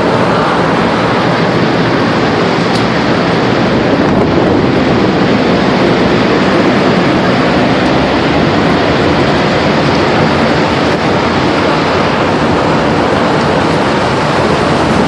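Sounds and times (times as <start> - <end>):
tornado winds rushing: 0.0 - 15.0.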